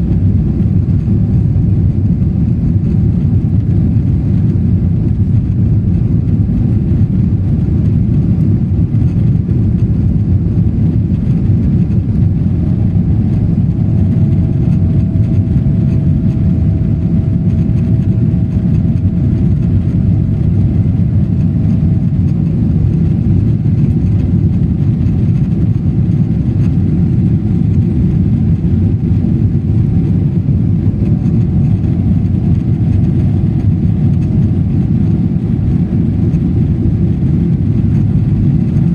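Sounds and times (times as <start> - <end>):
airplane engine rumble: 0.0 - 38.9
faint steady whine: 0.0 - 38.9.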